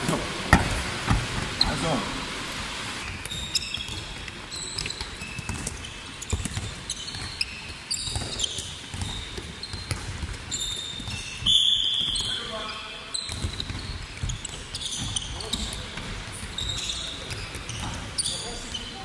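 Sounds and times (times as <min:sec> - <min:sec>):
balls bouncing on wooden floor: 0:00.0 - 0:01.9, 0:03.1 - 0:12.5, 0:13.1 - 0:18.9
shoe squeaks: 0:03.0 - 0:19.0.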